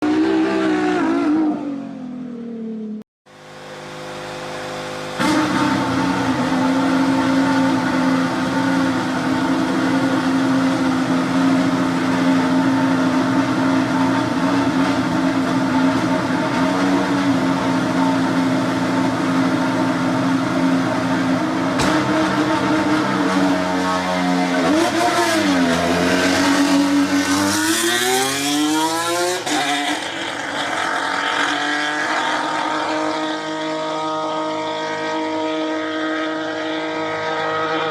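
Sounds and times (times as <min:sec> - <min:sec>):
racing car engine revving: 0:04.5 - 0:37.9.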